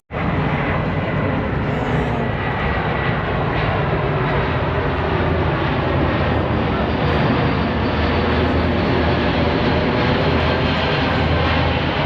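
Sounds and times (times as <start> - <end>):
engine droning: 0.2 - 12.0.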